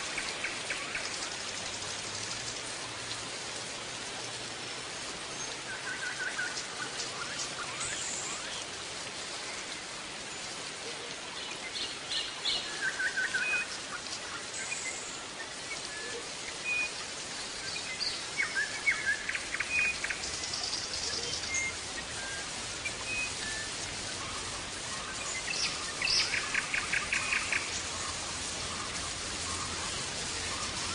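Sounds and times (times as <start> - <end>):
steady hiss: 0.0 - 30.9.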